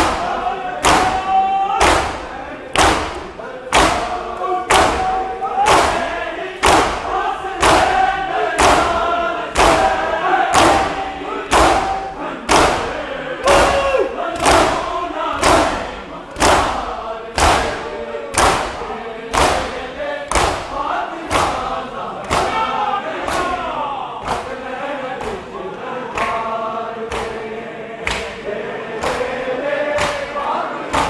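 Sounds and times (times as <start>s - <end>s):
crowd chanting a lament: 0.0s - 31.0s
men beating chests in unison: 0.0s - 31.0s.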